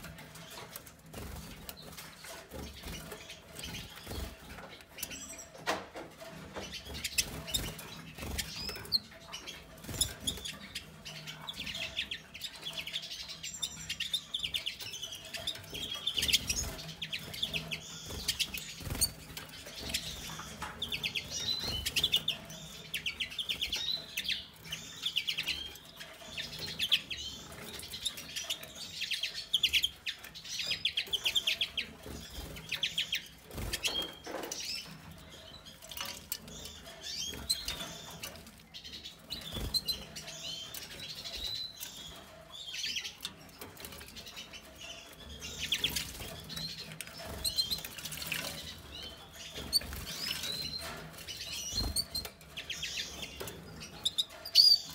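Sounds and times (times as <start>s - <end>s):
finches chirping and twittering: 0.0s - 54.9s.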